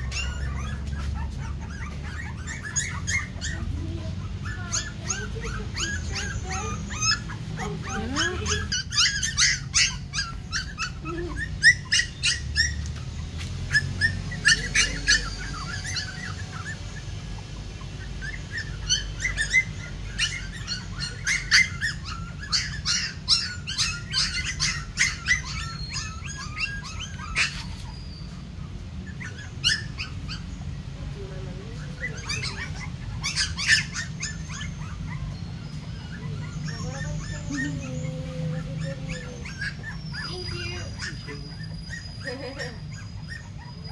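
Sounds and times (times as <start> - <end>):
puppies yipping and squeaking: 0.0 - 43.9.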